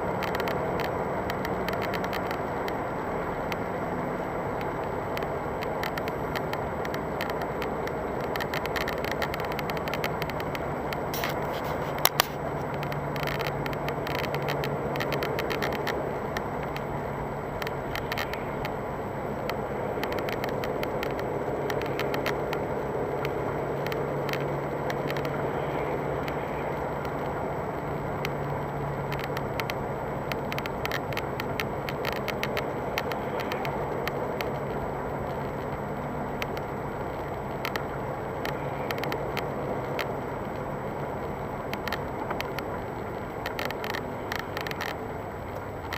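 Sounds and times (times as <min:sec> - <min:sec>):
engine and road noise: 0:00.0 - 0:45.9.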